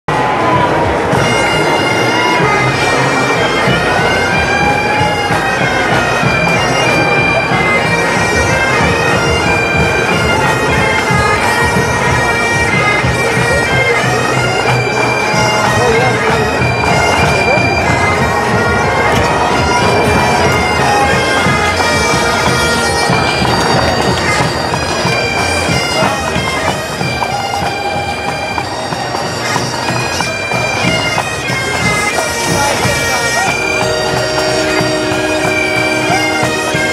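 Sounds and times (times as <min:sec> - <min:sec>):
bagpipe drones: 0:00.1 - 0:36.9
bagpipes playing a tune: 0:00.1 - 0:36.9.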